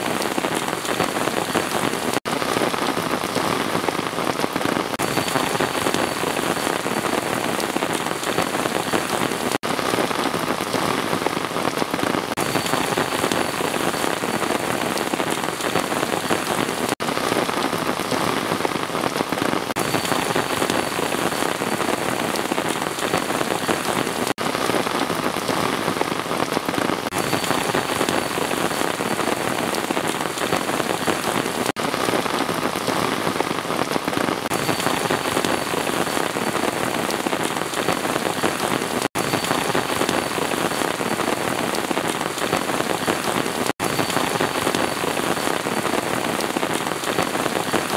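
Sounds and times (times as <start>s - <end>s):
dense rain falling: 0.0s - 47.9s.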